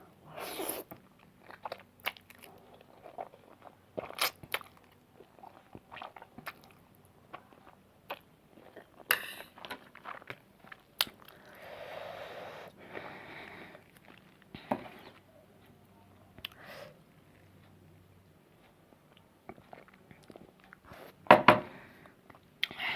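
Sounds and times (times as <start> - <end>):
person chewing noodles: 0.3 - 15.3, 17.3 - 21.2.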